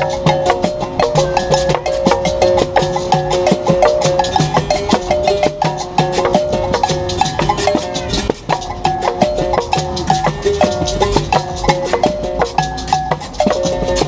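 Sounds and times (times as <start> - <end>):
berimbau: 0.0 - 14.0
hand percussion and shakers: 0.0 - 14.0.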